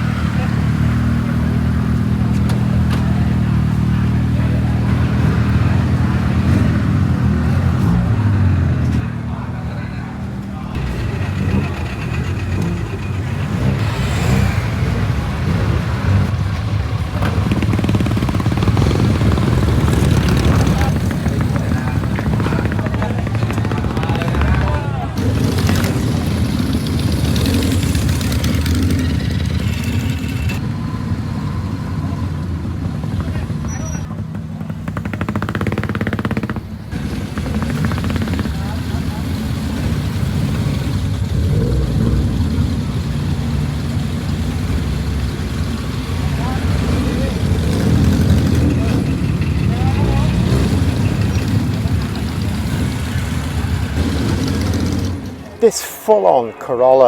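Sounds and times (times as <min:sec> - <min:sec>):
vehicle engine idling: 0:00.0 - 0:55.6.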